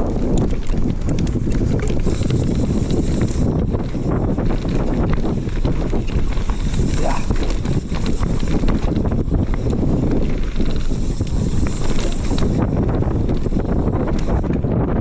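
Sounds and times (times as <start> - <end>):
bike rattling and clattering: 0.0 - 15.0
wind rushing on microphone: 0.0 - 15.0.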